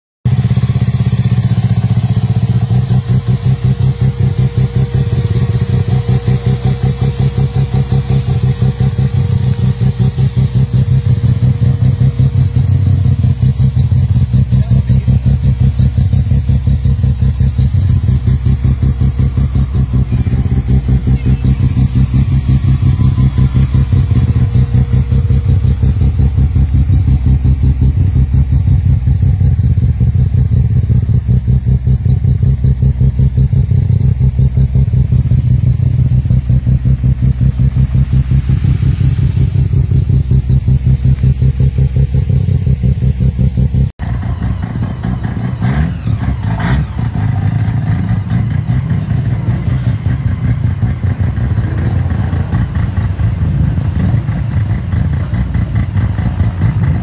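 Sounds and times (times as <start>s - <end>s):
rotary engine idling: 0.3s - 57.0s.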